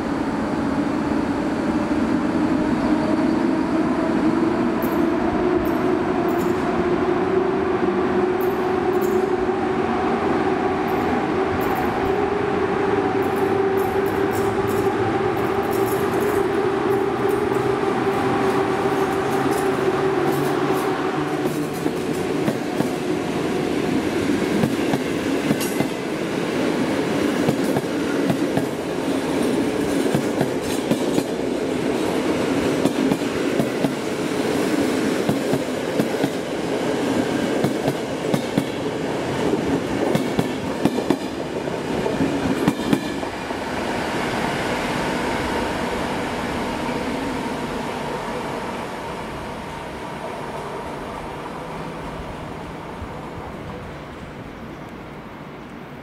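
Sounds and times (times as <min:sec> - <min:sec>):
electric locomotive hum: 0:00.0 - 0:56.0
train rumble: 0:00.0 - 0:56.0.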